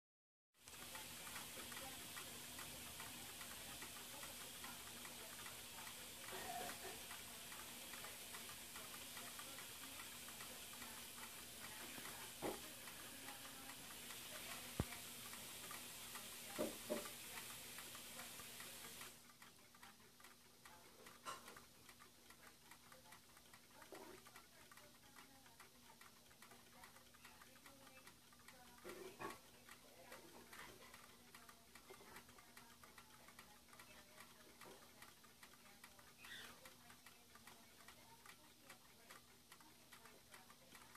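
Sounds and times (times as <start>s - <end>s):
rapid irregular ticking: 0.6s - 40.9s.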